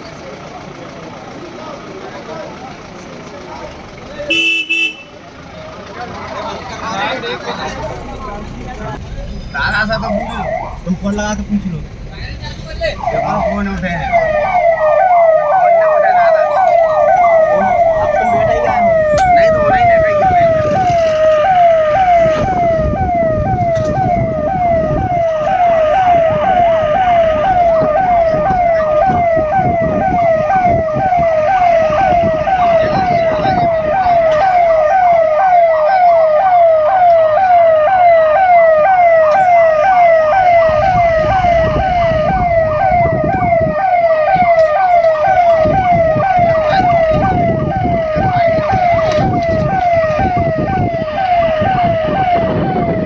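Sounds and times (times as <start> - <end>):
road and engine rumble: 0.0 - 53.0
siren on fast yelp: 9.4 - 11.6, 12.6 - 53.0.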